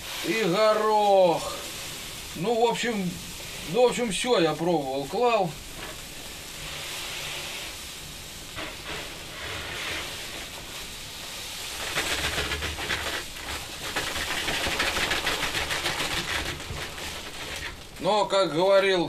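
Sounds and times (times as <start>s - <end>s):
sugar pouring into plastic drum: 0.0s - 19.0s.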